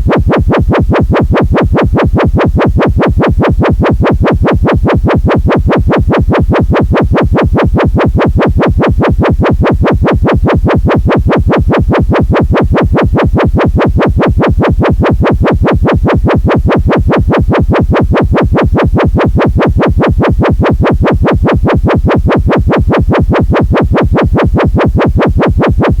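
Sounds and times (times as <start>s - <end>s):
pulsing electronic alarm buzz: 0.0s - 26.0s.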